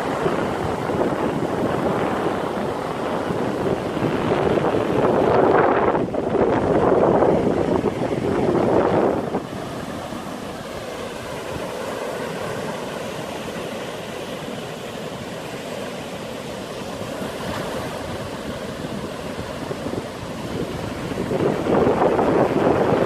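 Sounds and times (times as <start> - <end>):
sea waves washing: 0.0 - 23.0.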